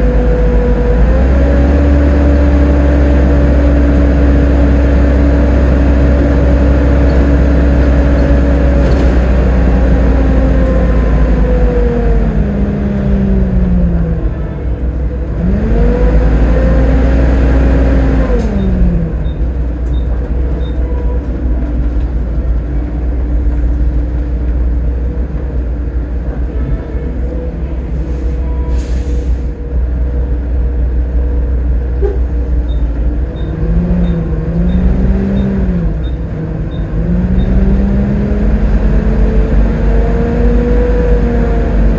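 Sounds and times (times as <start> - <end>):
bus engine rumble and whine: 0.0 - 41.9.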